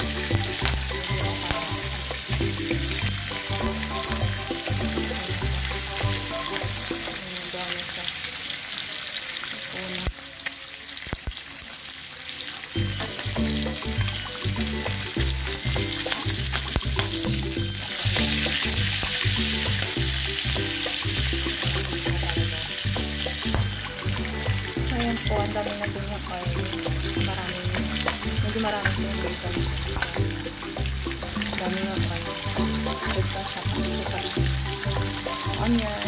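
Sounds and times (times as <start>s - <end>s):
background music with steady beat: 0.0s - 7.4s, 12.8s - 36.0s
bacon sizzling in hot oil: 0.0s - 36.0s.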